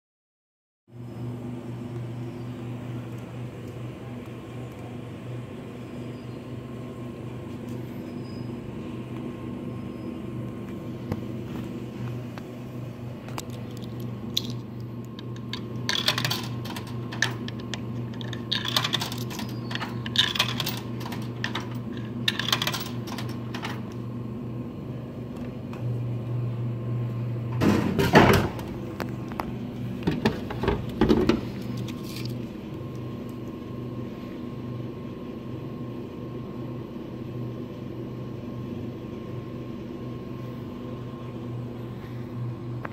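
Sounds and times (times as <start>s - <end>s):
vending machine humming: 0.9s - 42.9s.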